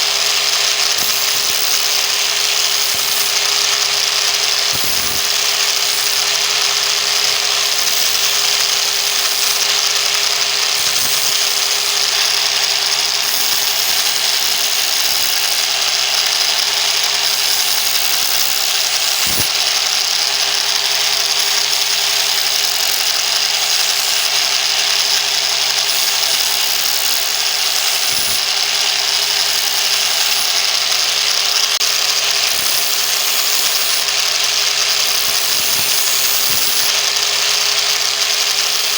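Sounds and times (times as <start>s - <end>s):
angle grinder sanding: 0.0s - 38.9s.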